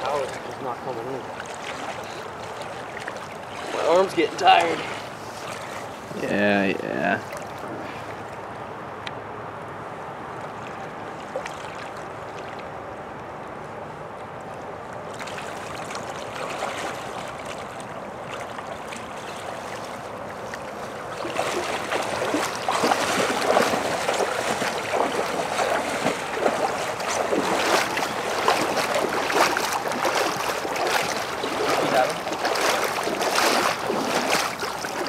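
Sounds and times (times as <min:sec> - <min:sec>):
splashing through shallow water: 0:00.0 - 0:06.4, 0:07.0 - 0:08.5, 0:10.3 - 0:13.6, 0:14.2 - 0:35.0
creek water running: 0:00.0 - 0:08.8, 0:09.8 - 0:35.0.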